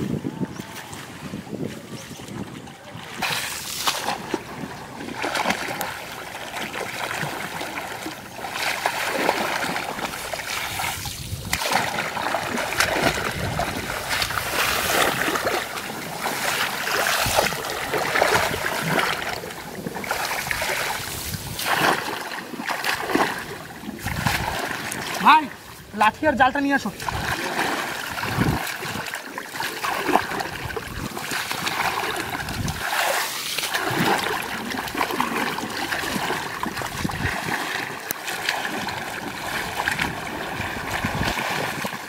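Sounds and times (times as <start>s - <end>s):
hands splashing in muddy water: 3.1s - 25.3s, 26.8s - 42.0s.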